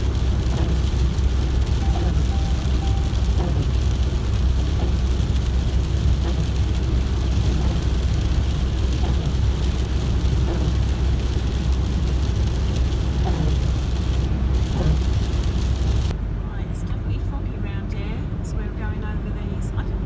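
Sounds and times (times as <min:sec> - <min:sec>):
engine rumble inside van: 0:00.0 - 0:20.0.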